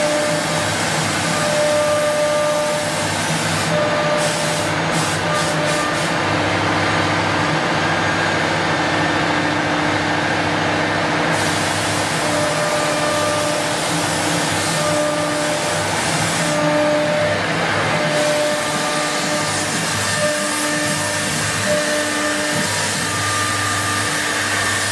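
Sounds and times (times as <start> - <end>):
cnc router spindle whine: 0.0 - 24.9.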